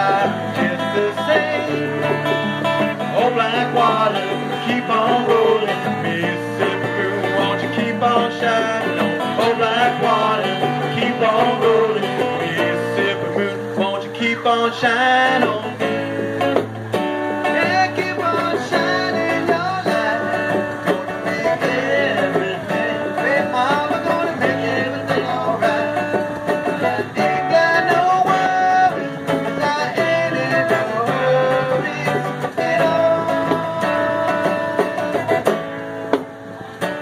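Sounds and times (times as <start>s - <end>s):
hand drums: 0.0s - 13.9s, 15.2s - 37.0s
man singing: 0.0s - 16.2s, 17.4s - 35.5s
strummed acoustic guitar: 0.0s - 37.0s.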